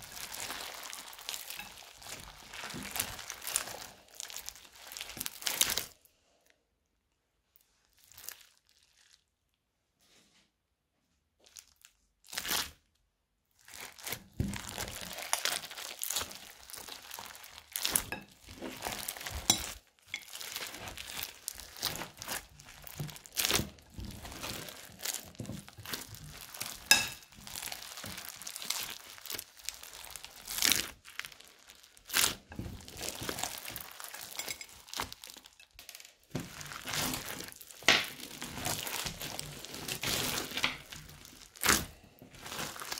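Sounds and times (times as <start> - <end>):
slime crackling and popping: 0.0 - 6.1, 7.9 - 9.3, 11.5 - 12.9, 13.5 - 42.9.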